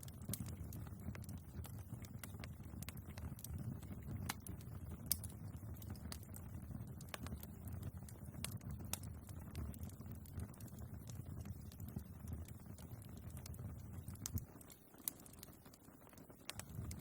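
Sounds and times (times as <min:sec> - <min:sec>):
logs crackling and popping: 0:00.0 - 0:17.0
low rumble of flame: 0:00.0 - 0:17.0.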